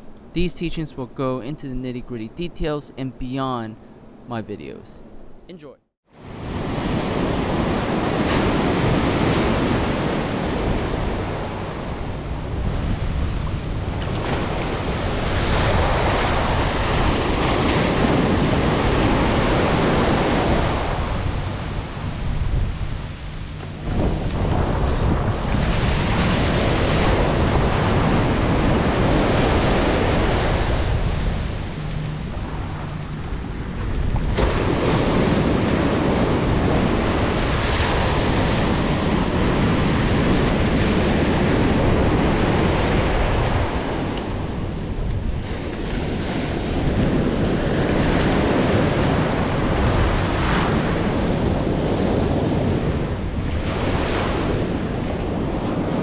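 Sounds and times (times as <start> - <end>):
ocean surf breaking: 5.6 - 56.0
wind buffeting microphone: 6.3 - 56.0.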